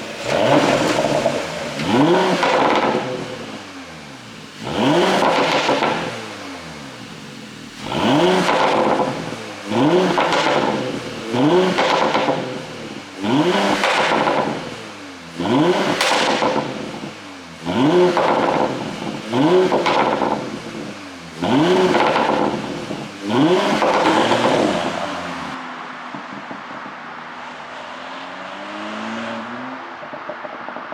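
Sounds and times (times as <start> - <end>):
car engine revving with pops: 0.0 - 30.9.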